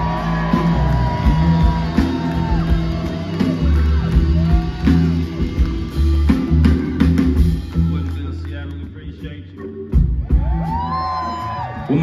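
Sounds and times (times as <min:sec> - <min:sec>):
live blues rock band: 0:00.0 - 0:11.8.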